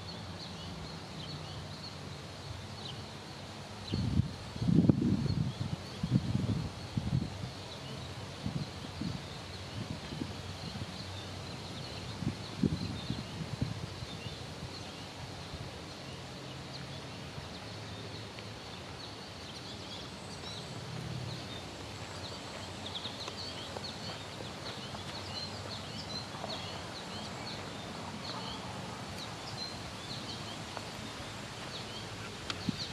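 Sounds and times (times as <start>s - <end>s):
small birds chirping: 5.0s - 32.9s.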